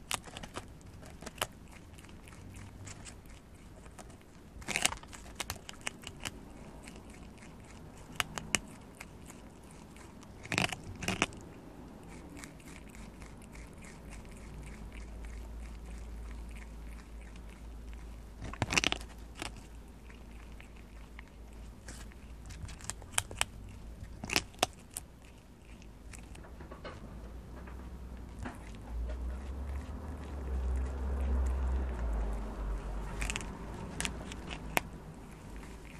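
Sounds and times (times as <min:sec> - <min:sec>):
animal crunching corn: 0:00.0 - 0:27.0, 0:27.6 - 0:35.9
low steady hum: 0:00.0 - 0:35.9.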